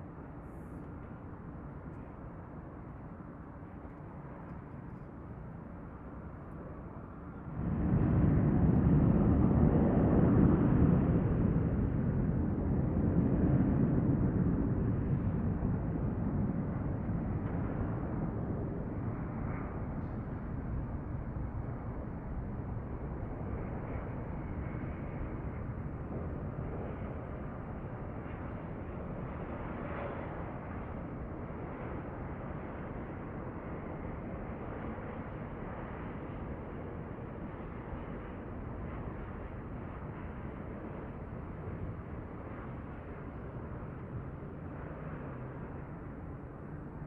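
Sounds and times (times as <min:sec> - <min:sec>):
distant jet engine: 0:00.0 - 0:47.0.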